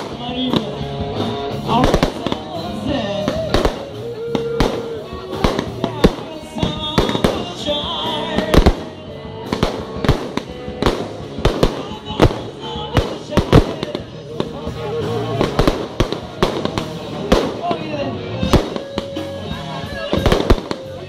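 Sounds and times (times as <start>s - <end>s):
background music: 0.0s - 21.0s
fireworks bangs and crackles: 0.0s - 21.0s.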